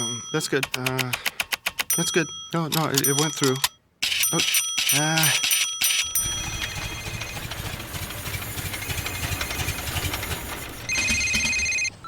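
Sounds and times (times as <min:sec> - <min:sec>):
telephone ringing: 0:00.0 - 0:01.1, 0:01.8 - 0:12.0.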